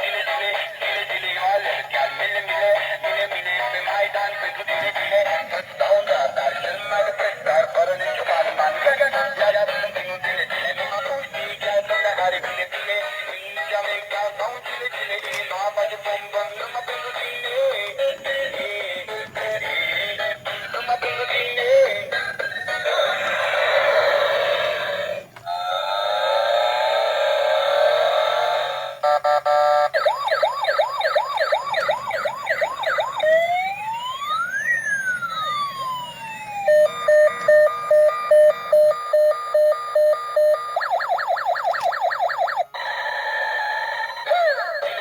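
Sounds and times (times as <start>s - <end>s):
synthesized singing voice music: 0.0s - 29.2s, 29.9s - 38.8s, 40.7s - 45.0s.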